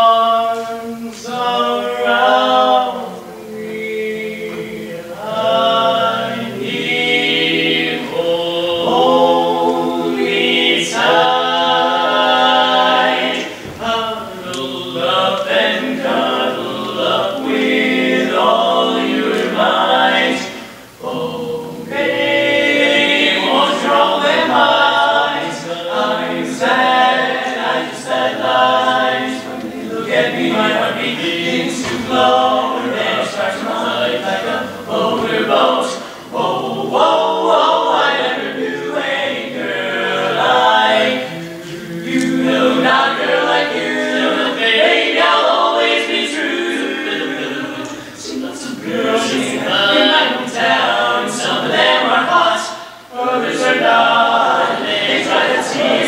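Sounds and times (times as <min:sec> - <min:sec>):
male vocal quartet singing a cappella: 0:00.0 - 0:56.0.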